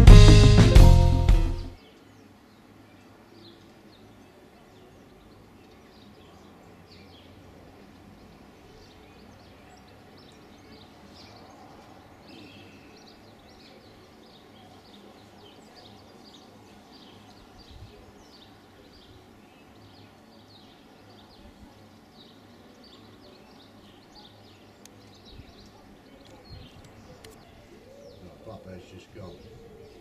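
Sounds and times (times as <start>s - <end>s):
small birds chirping: 1.6s - 30.0s.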